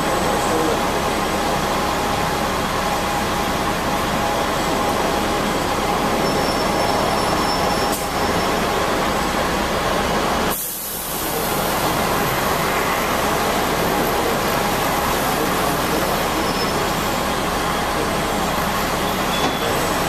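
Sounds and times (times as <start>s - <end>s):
tram wheels on rail: 0.0s - 20.0s.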